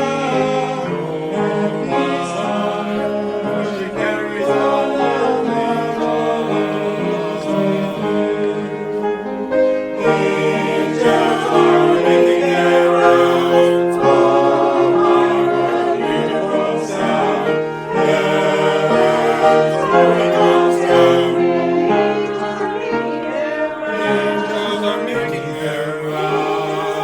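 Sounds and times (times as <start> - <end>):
choir singing chords: 0.0 - 27.0.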